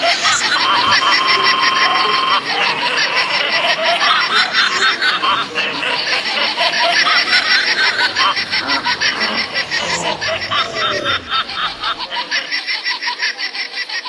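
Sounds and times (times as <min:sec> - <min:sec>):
child-like giggling: 0:00.0 - 0:14.0.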